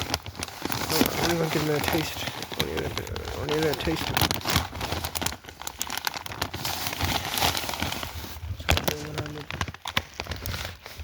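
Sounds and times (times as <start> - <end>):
feed bag crinkling and rustling: 0.0 - 11.0.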